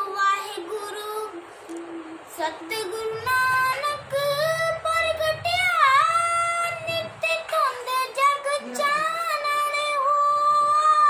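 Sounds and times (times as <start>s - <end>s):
boy singing a hymn unaccompanied: 0.0s - 11.0s.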